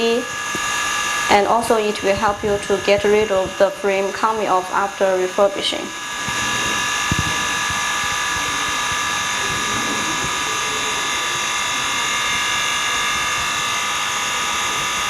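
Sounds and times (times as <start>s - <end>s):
laminating machine whine: 0.0s - 15.0s.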